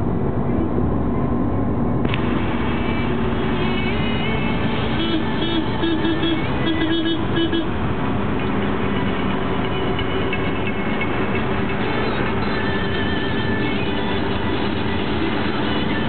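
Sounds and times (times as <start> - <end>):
road and engine drone in van: 0.0 - 16.0.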